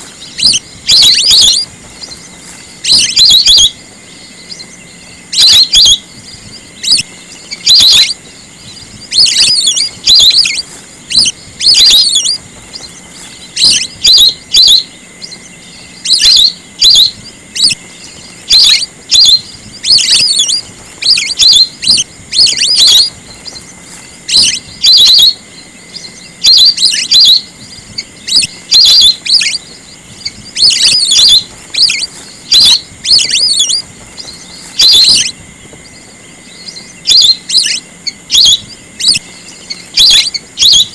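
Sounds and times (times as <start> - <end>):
ducks whistling calls: 0.0 - 40.9.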